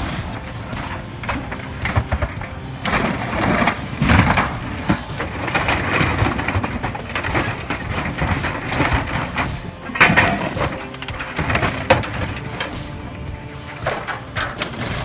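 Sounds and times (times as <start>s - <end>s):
debris crunching and splintering: 0.0s - 15.0s.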